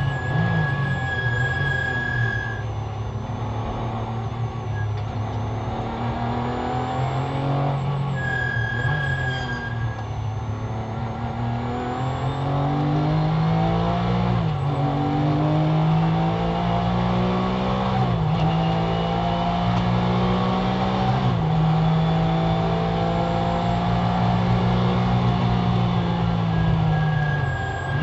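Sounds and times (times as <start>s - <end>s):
car engine at full throttle: 0.0s - 28.0s.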